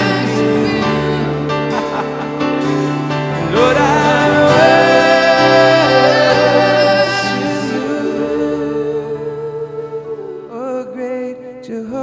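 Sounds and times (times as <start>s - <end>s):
sustained worship music chords: 0.0s - 11.9s.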